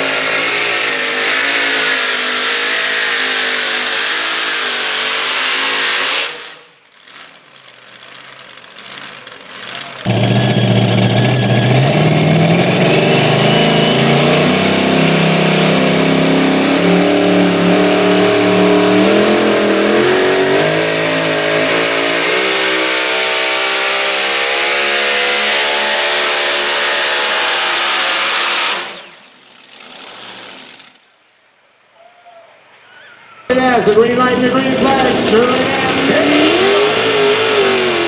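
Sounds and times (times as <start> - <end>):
tractor engine running flat out: 0.0 - 31.0.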